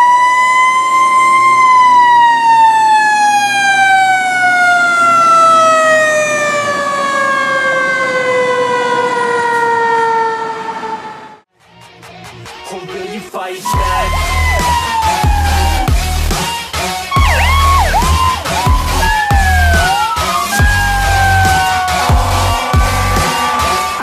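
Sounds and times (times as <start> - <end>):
fire truck siren: 0.0 - 11.5, 13.7 - 24.0.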